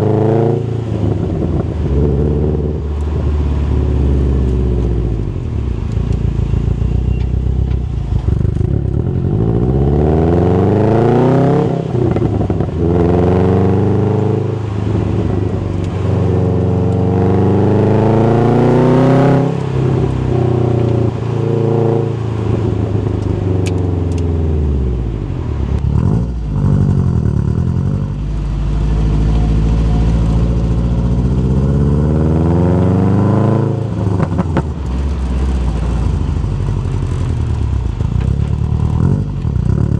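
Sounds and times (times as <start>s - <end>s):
car exhaust revving: 0.0s - 39.9s.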